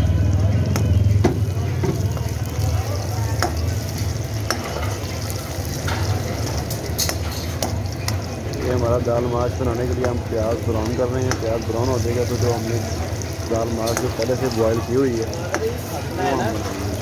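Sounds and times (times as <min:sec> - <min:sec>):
onions sizzling in oil: 0:00.7 - 0:17.0.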